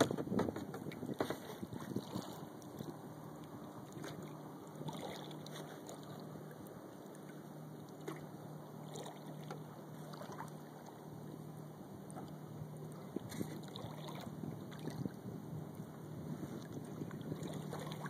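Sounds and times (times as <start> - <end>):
small waves lapping against hull: 0.0 - 18.0.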